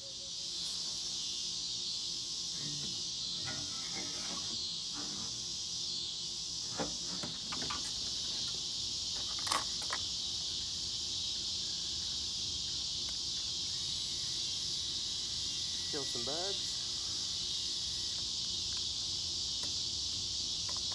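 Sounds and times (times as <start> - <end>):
insects chirping chorus: 0.0 - 20.9.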